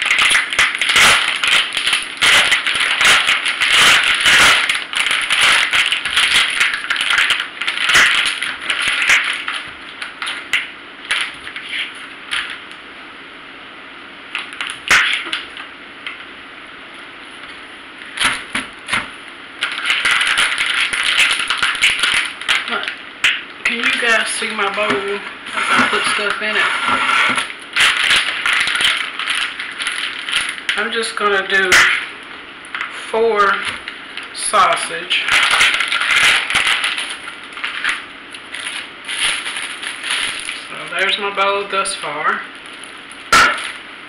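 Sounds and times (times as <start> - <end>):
plastic packaging crinkling: 0.0 - 12.8, 14.3 - 16.3, 17.3 - 41.3, 42.5 - 44.0.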